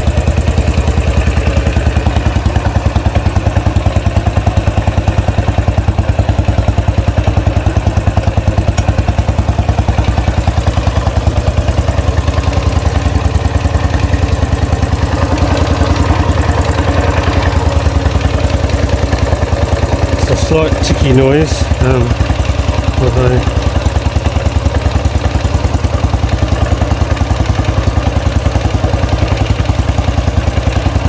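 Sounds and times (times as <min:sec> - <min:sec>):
engine ticking: 0:00.0 - 0:31.0
motorcycle engine idling: 0:00.0 - 0:31.0.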